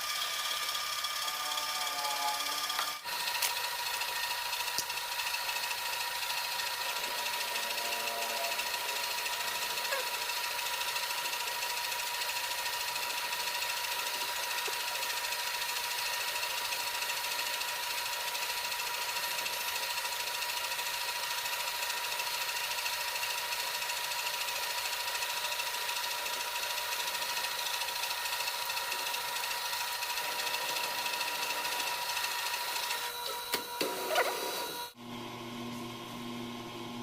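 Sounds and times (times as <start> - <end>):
metal lathe whining: 0.0 - 35.0.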